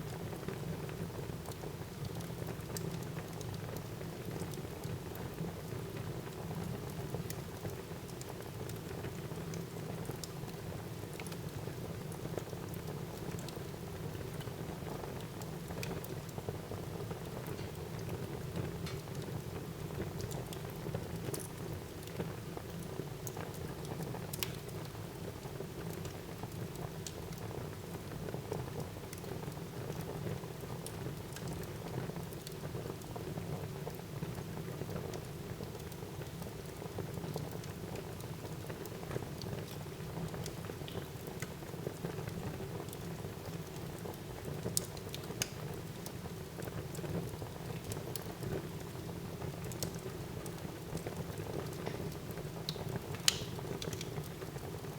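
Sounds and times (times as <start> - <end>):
fire crackling and popping: 0.1 - 54.9.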